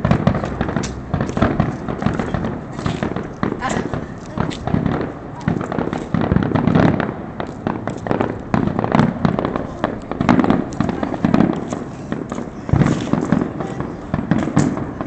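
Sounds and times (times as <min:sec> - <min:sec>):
deep firework booms: 0:00.0 - 0:15.0
fireworks crackling and popping: 0:00.0 - 0:15.0.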